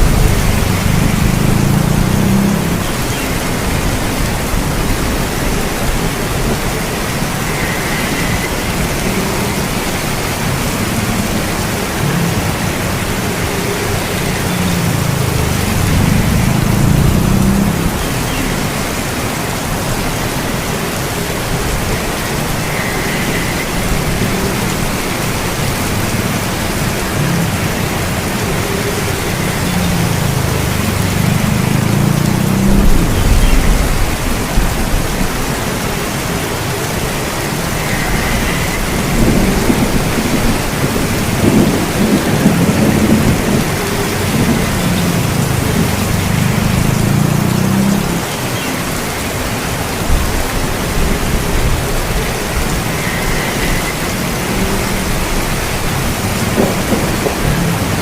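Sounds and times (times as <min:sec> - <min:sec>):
thunder rumbling: 0:00.0 - 0:48.2, 0:50.0 - 0:58.0
heavy rain: 0:00.0 - 0:58.0.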